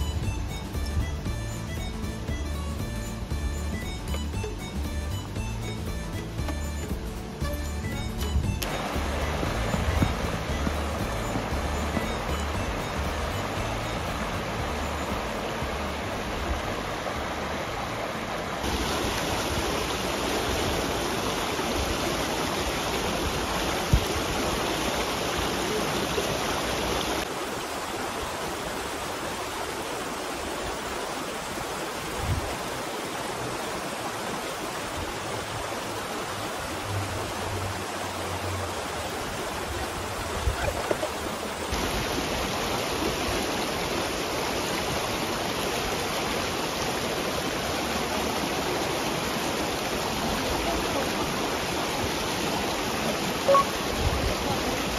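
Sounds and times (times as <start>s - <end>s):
river rushing over stones: 0.0s - 54.9s.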